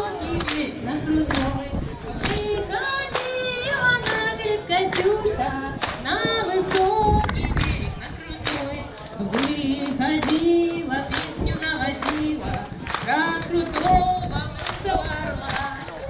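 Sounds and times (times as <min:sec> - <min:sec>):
crowd clapping in time: 0:00.0 - 0:16.0
people singing: 0:00.0 - 0:16.0.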